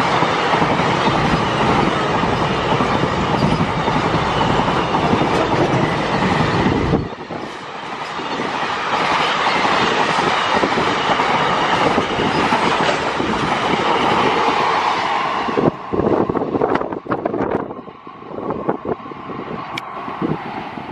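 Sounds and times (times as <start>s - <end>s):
train wheels rolling on rails: 0.0s - 20.9s.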